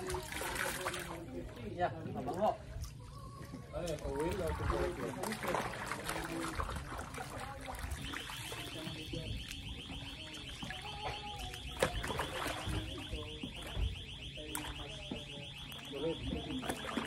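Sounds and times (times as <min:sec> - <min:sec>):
laundry splashing in water: 0:00.0 - 0:17.0.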